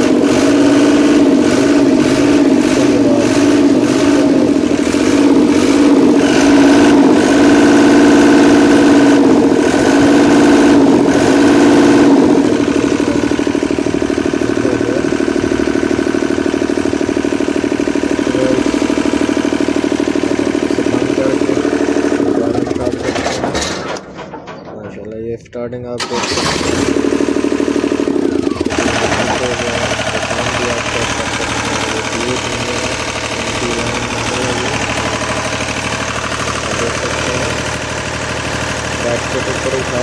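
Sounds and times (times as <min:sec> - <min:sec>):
diesel engine revving: 0:00.0 - 0:24.5, 0:25.9 - 0:40.0.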